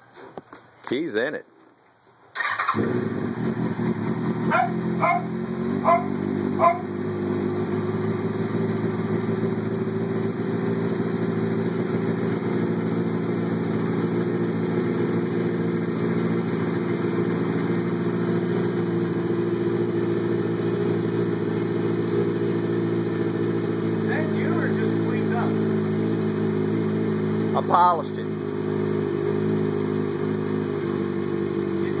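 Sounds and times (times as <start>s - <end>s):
motorcycle engine idling: 2.4s - 32.0s.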